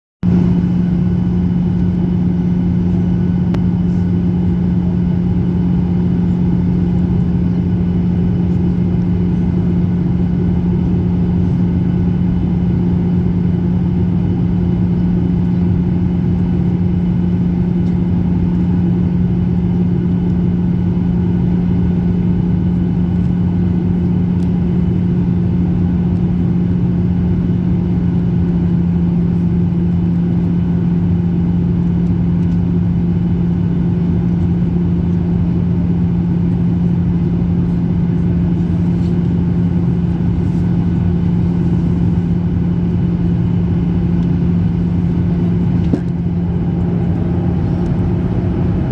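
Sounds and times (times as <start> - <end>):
jet cabin drone: 0.2 - 48.9.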